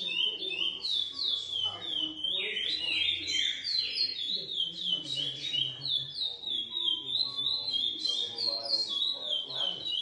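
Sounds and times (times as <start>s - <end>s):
finch whistling song: 0.0s - 10.0s.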